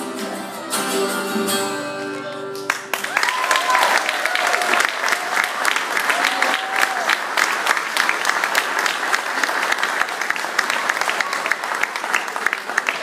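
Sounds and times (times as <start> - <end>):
audience applauding: 2.1 - 13.0.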